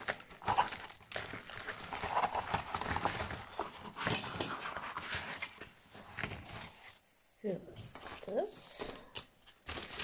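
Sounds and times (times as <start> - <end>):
packaging crinkling and rustling: 0.0 - 7.0, 7.9 - 10.0.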